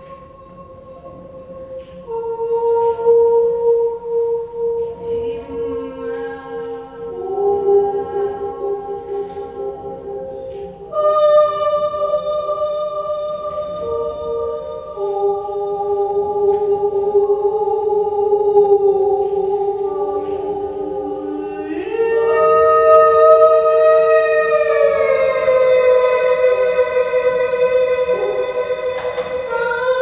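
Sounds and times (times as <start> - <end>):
electroacoustic held tones: 0.0 - 30.0.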